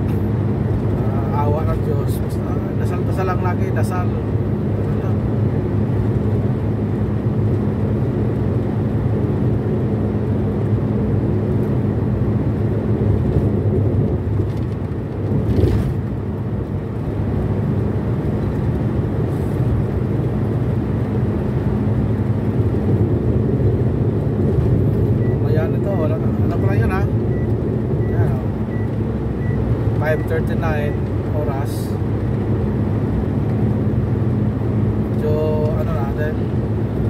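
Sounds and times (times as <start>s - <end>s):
car engine and tyre drone: 0.0s - 37.0s.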